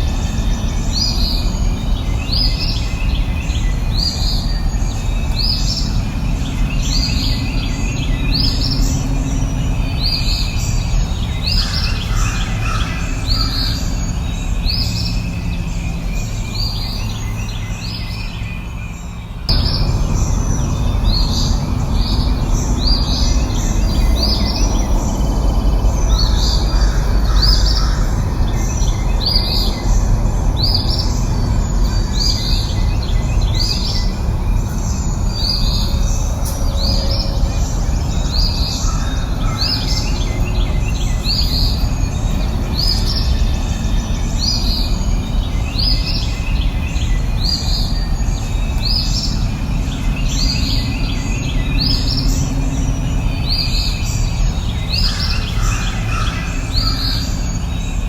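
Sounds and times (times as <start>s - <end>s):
low rushing background: 0.0s - 58.0s.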